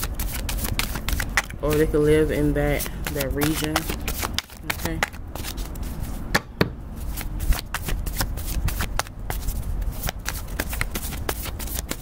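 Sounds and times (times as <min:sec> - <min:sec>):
cards being shuffled: 0:00.0 - 0:06.2, 0:07.0 - 0:12.0.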